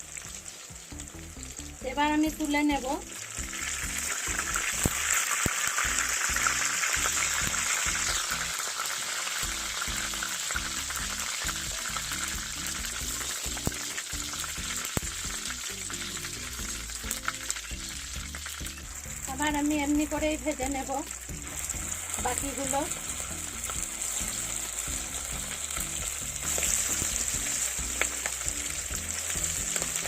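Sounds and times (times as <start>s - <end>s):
chicken deep-frying in oil: 0.0s - 30.0s.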